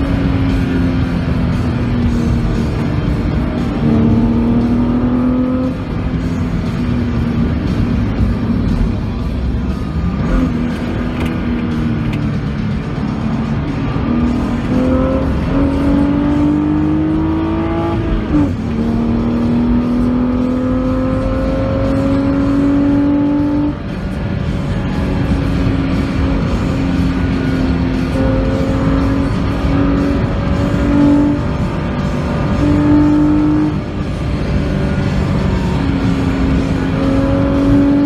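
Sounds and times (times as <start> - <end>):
car engine accelerating: 0.0 - 38.0
road and wind rush: 0.0 - 38.0.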